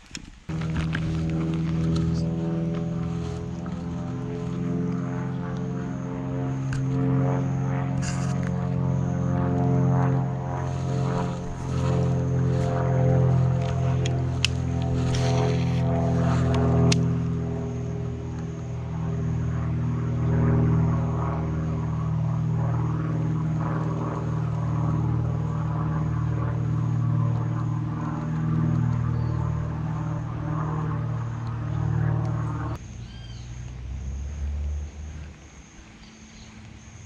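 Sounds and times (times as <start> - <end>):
small motor humming: 0.0 - 33.4.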